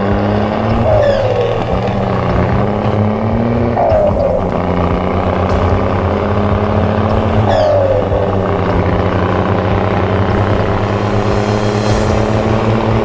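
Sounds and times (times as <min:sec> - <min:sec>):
toy vehicle engine drone: 0:00.0 - 0:13.0
short falling whine: 0:00.7 - 0:13.0.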